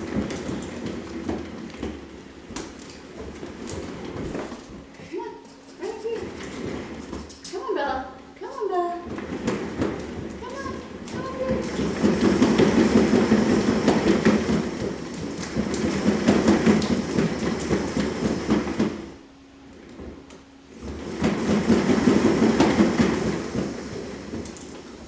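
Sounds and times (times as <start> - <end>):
cat exercise wheel rumbling: 0.0 - 25.0.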